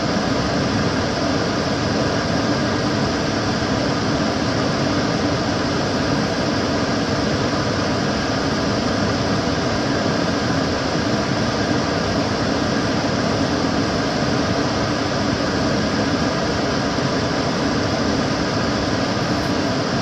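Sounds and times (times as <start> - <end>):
extractor fan running: 0.0 - 20.0.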